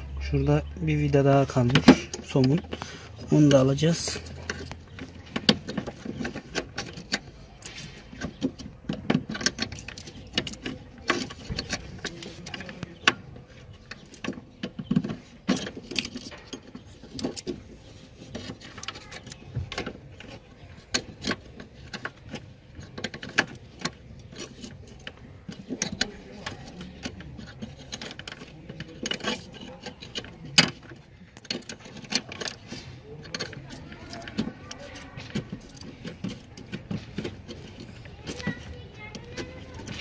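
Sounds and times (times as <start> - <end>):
metal parts knocking: 1.2 - 40.0
small metallic clicks and taps: 1.4 - 40.0.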